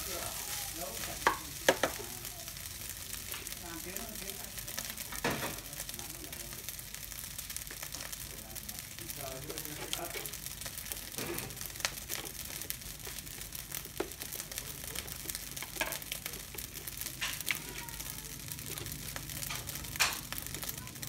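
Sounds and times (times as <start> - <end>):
rice sizzling in a pan: 0.0 - 21.0.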